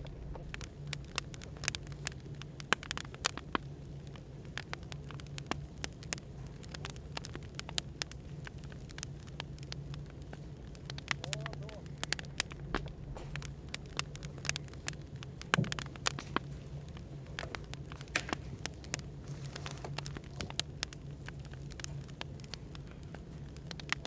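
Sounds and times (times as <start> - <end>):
low room hum: 0.0 - 24.0
wood fire crackling and popping: 0.0 - 24.0.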